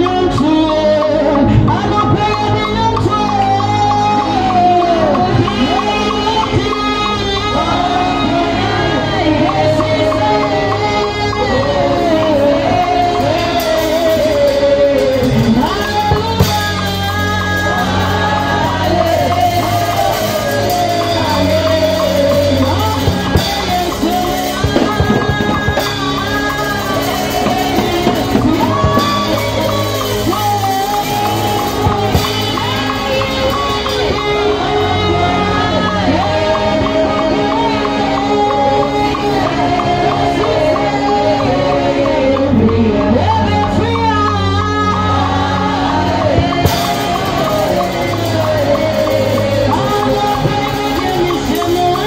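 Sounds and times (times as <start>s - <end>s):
backing singers: 0.0s - 52.0s
instrumental accompaniment: 0.0s - 52.0s
woman singing into a microphone: 0.0s - 52.0s.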